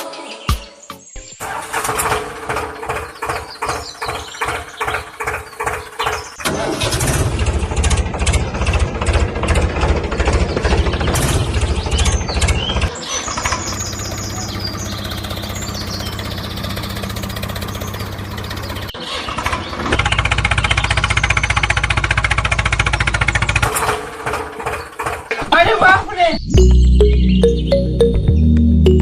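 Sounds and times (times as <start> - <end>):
tractor engine running: 1.4 - 25.6.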